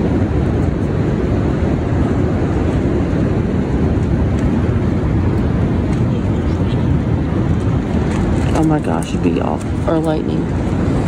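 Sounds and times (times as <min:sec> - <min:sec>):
wind gusts with deep rumble: 0:00.0 - 0:11.0.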